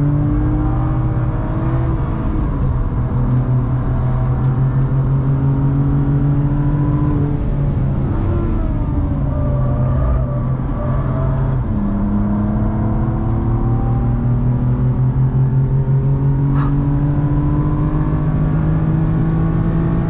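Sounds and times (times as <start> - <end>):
car engine droning under load: 0.0 - 20.0.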